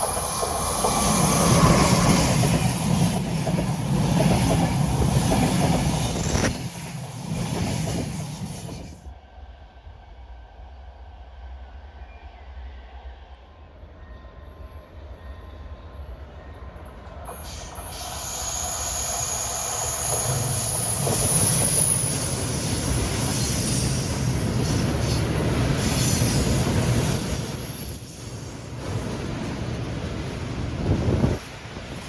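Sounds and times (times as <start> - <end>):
train wheels squealing: 0.0 - 9.0, 11.8 - 30.0, 31.4 - 32.0
train rumbling past: 0.0 - 32.0.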